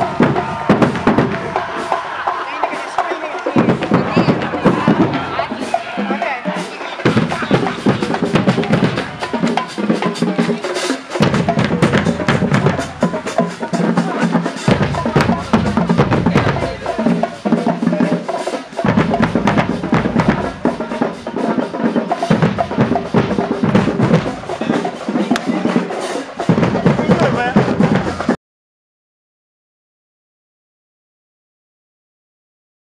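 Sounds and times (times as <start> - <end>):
bass drums: 0.0 - 6.4, 7.0 - 28.4
snare drums playing cadence: 0.0 - 28.4.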